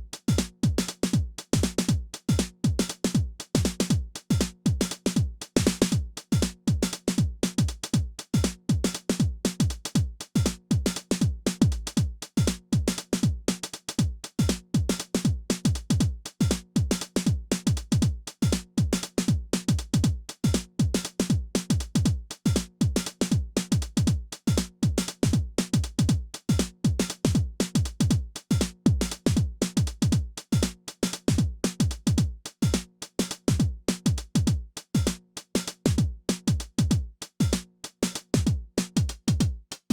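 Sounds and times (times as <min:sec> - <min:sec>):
electronic kick drum: 0:00.0 - 0:39.9
hi-hats and percussion: 0:00.0 - 0:39.9.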